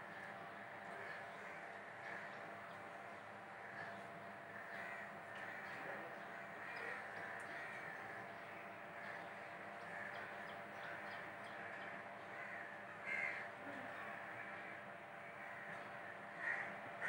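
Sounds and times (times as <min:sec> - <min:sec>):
crows cawing: 0:00.8 - 0:17.0.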